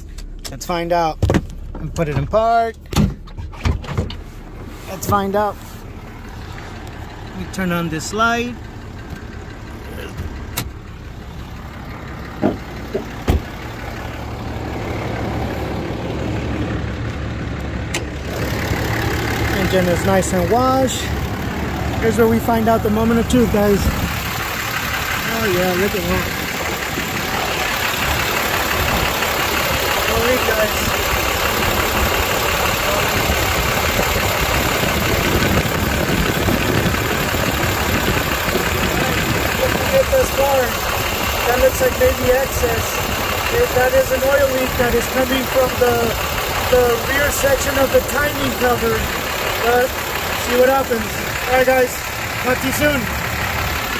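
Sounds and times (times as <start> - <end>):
diesel engine idling: 0.0 - 3.5, 4.2 - 53.9.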